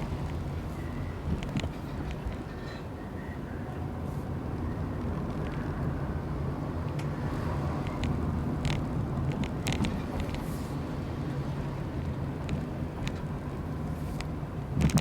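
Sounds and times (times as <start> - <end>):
car engine and exhaust drone: 0.0 - 15.0.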